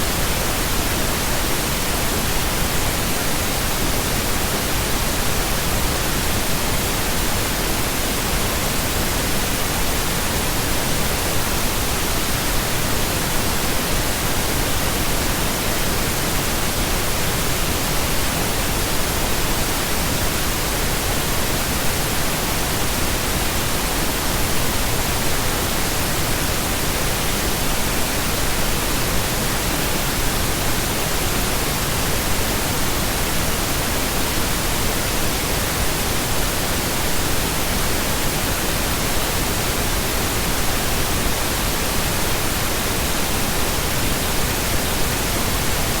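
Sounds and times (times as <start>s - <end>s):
pink noise hiss: 0.0s - 46.0s.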